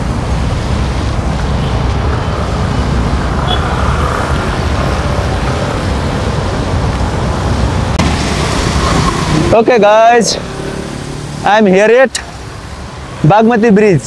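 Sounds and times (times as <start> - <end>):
cars and motorcycles passing: 0.0 - 14.0
traffic on wet street: 0.0 - 14.0.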